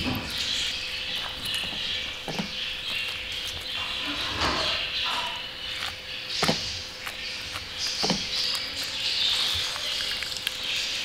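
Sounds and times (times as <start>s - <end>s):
fork scraping grapefruit flesh: 0.3s - 10.9s.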